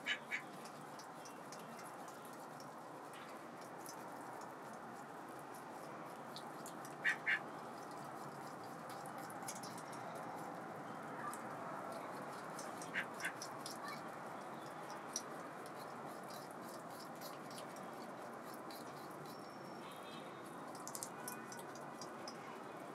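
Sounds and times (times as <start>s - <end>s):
bills ticking through feathers: 0.0s - 19.8s, 20.5s - 22.4s.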